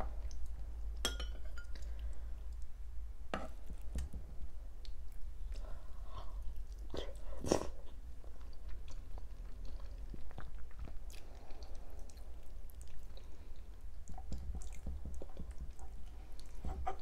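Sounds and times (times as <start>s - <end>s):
chewing and wet mouth sounds: 0.0s - 1.0s, 1.6s - 2.8s, 4.7s - 17.0s.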